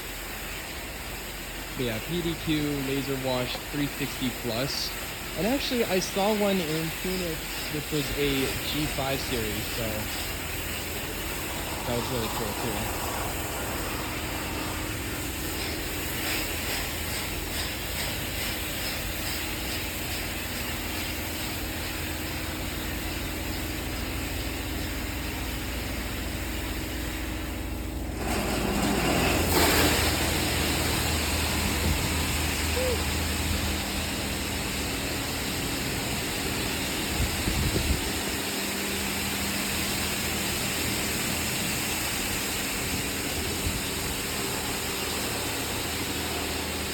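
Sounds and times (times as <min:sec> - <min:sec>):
pumps and motors humming: 0:00.0 - 0:46.9
water spraying hiss: 0:00.0 - 0:46.9.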